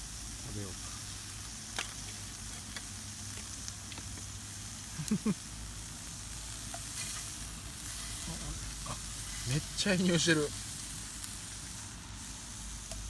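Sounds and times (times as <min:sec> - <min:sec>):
food sizzling over campfire: 0:00.0 - 0:13.0.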